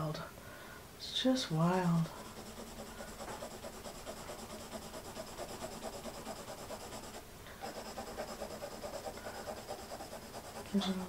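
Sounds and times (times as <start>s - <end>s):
pencil scratching on paper: 2.0s - 11.0s.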